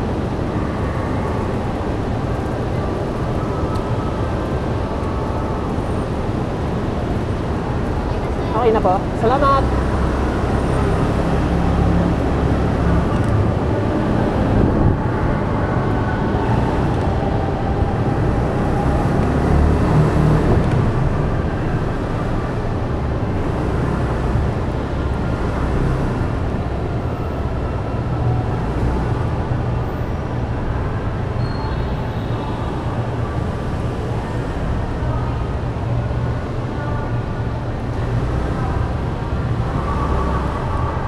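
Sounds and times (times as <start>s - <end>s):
traffic rumble: 0.0s - 41.0s.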